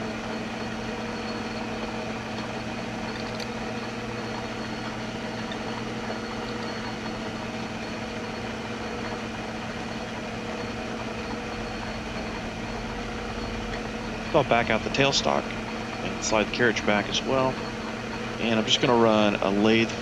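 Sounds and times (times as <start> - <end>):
metal lathe humming: 0.0 - 20.0.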